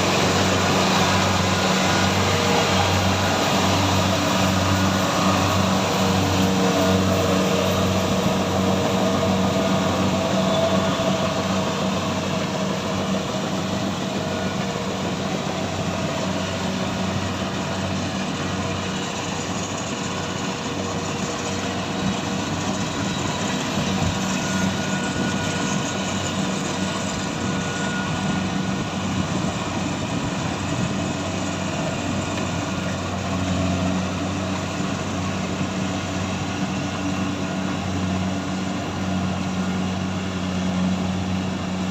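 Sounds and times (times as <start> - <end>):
machine engine running: 0.0 - 41.9.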